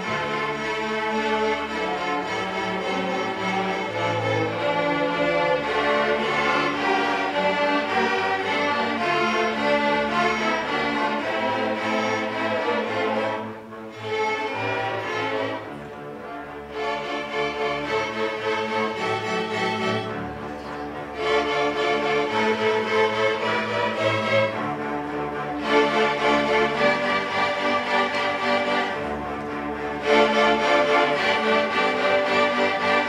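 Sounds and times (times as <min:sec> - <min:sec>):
string orchestra playing: 0:00.0 - 0:33.0.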